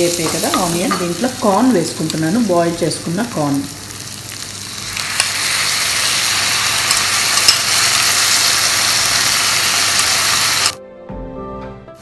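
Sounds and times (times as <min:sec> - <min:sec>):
corn sizzling in hot oil: 0:00.0 - 0:10.8.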